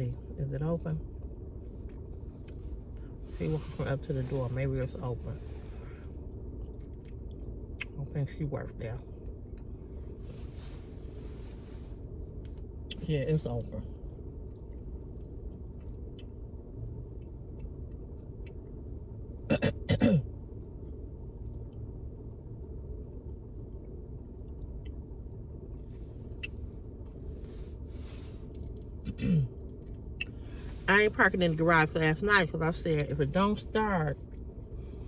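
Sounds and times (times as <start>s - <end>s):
car interior hum: 0.0s - 35.0s.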